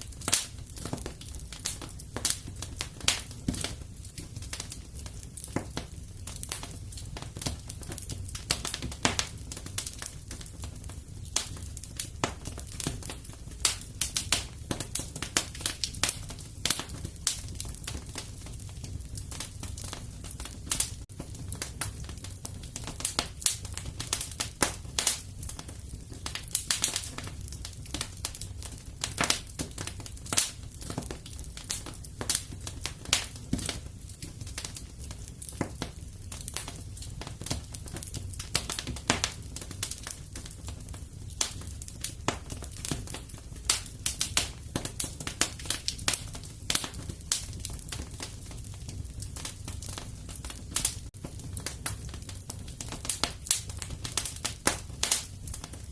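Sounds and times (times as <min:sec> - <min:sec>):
fireplace fire crackling and popping: 0:00.0 - 0:55.9.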